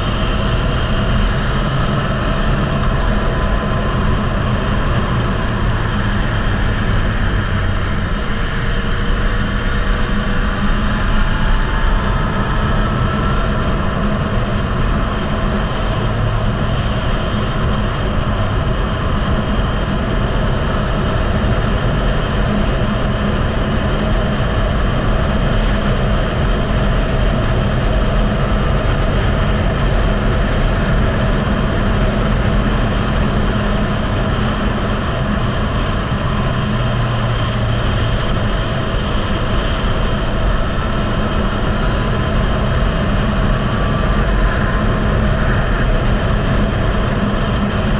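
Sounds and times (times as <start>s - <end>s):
wind noise on microphone: 0.0s - 47.9s.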